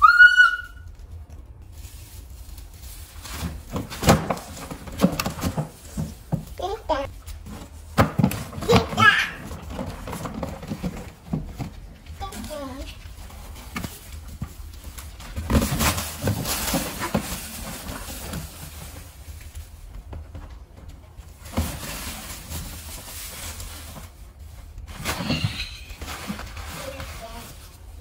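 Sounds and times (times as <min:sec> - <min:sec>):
shredded paper rustling and crackling: 0:01.6 - 0:28.0.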